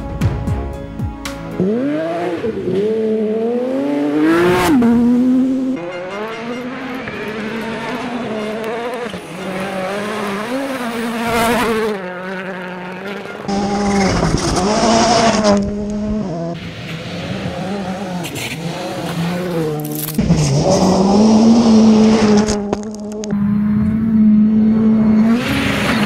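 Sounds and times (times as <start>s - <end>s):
rally car engines revving: 1.4s - 26.0s.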